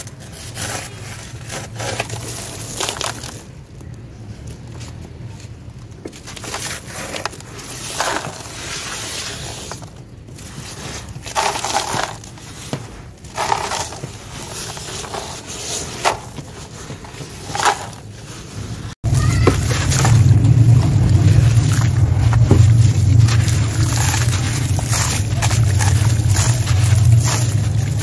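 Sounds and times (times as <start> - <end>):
hand crunching through dry grit: 0.0 - 28.0.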